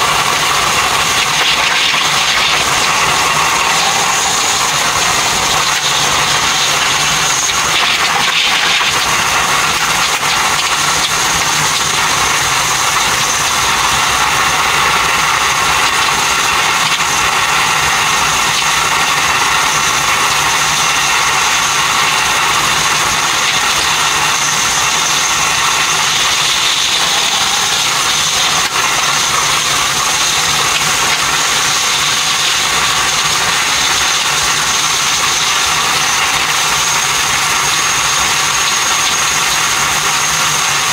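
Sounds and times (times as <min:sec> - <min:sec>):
electric train running at speed: 0:00.0 - 0:40.9
faint high whine: 0:00.0 - 0:40.9.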